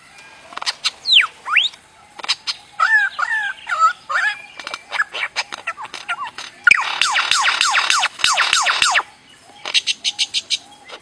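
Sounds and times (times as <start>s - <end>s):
bird clicking calls: 0.5s - 11.0s
bird warbling: 0.6s - 11.0s.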